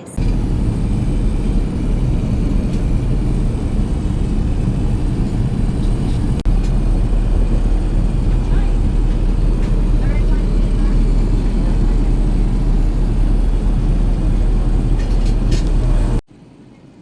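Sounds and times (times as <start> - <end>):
rushing air: 0.0 - 16.2
jet engines rumbling: 0.0 - 16.9.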